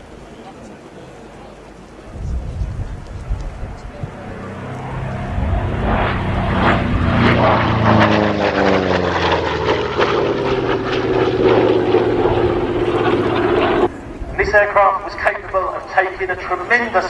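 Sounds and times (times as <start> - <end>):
propeller plane flying past: 3.0 - 17.0.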